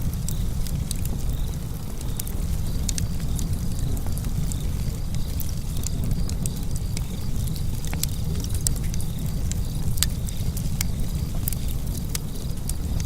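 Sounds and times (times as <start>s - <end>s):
fire crackling and popping: 0.0s - 13.0s
wood fire burning: 0.0s - 13.0s.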